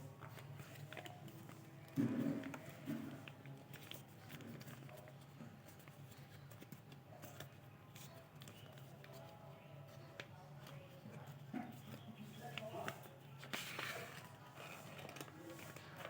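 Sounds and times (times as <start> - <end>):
paper crinkling: 0.0 - 16.0.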